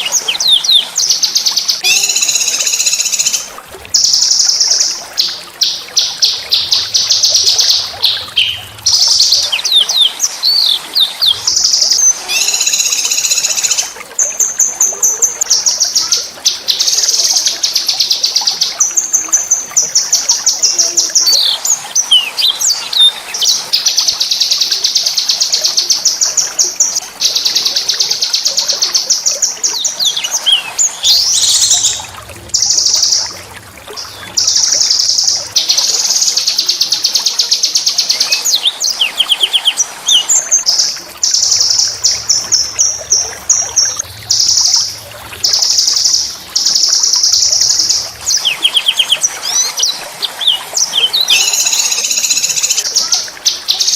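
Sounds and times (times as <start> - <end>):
songbirds singing trills: 0.0 - 53.9.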